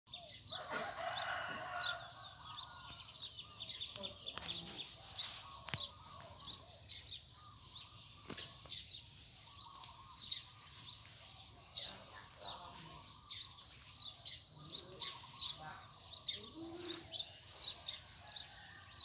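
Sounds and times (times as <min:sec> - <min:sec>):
outdoor background noise: 0:00.1 - 0:19.0
small birds chirping: 0:00.1 - 0:19.0.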